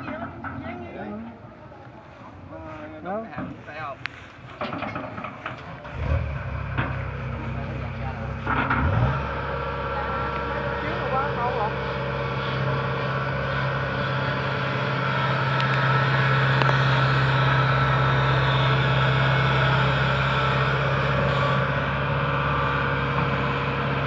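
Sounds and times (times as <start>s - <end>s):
harvester engine humming: 0.0s - 24.0s.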